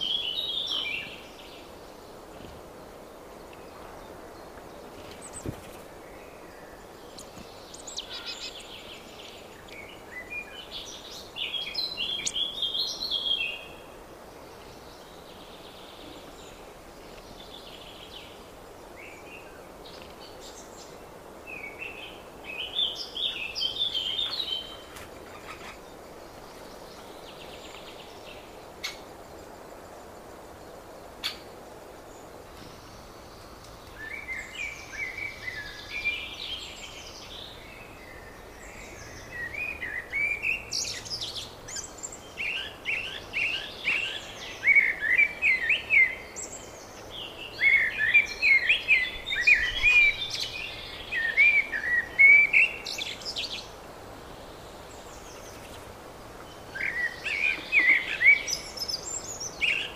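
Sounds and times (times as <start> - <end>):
songbird chirping: 0.0 - 59.9
steady background hiss: 0.0 - 59.9.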